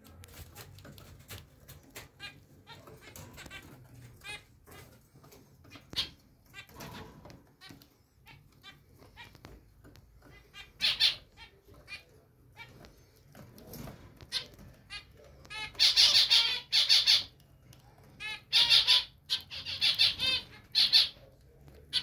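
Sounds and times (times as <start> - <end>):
zebra finches calling: 0.3 - 17.4, 18.1 - 21.3.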